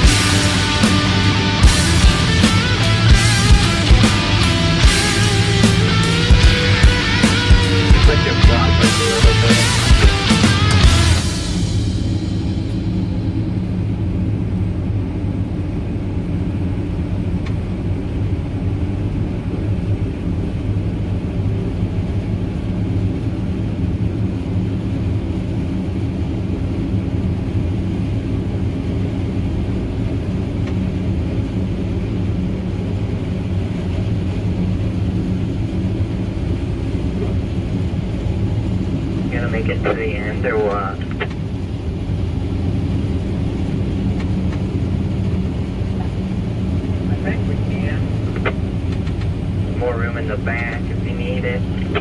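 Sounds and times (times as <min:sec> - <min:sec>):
diesel engines droning under load: 0:00.0 - 0:52.0.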